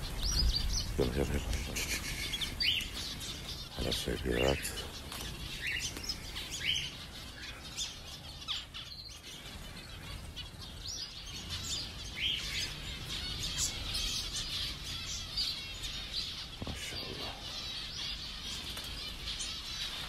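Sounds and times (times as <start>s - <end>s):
many birds chirping: 0.0s - 20.0s.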